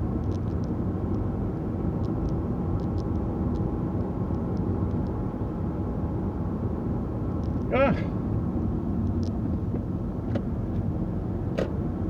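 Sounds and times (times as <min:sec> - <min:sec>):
car engine and tyres rumble: 0:00.0 - 0:12.0.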